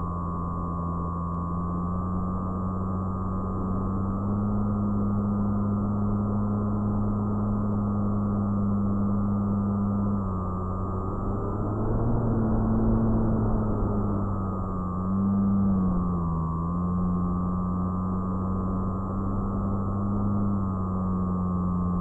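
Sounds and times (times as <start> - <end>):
propeller motor hum: 0.0 - 22.0.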